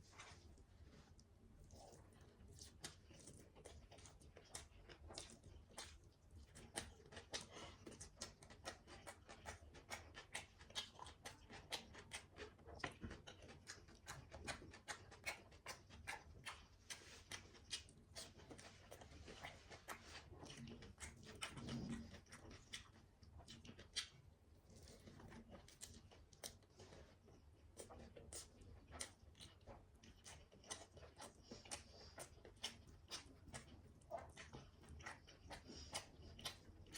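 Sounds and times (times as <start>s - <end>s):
faint low hum: 0.0s - 36.9s
chewing and mouth smacks: 0.1s - 36.9s.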